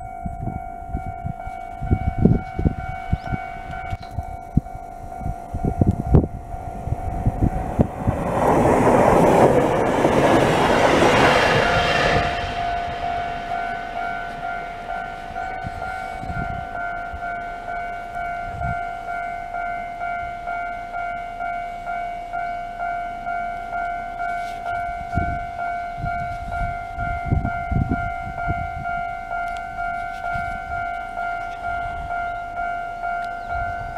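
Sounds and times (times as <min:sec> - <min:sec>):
level crossing alarm ringing: 0:00.0 - 0:33.9
train passing: 0:00.0 - 0:33.9.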